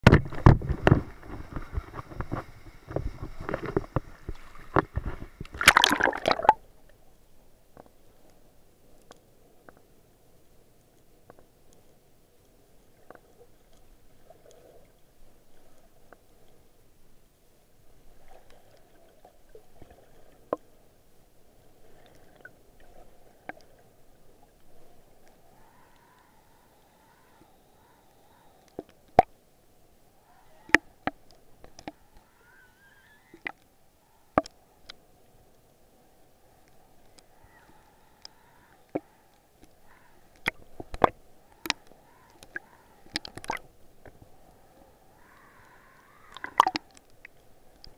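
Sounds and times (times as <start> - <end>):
muffled underwater water wash: 0.0 - 47.9.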